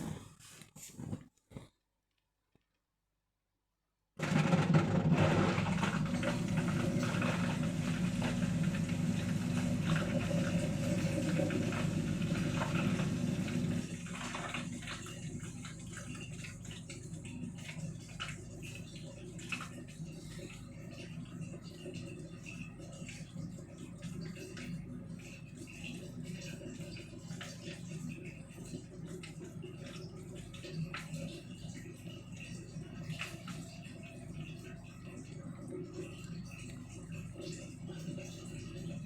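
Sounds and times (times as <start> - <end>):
washing machine water rushing: 4.2 - 39.0.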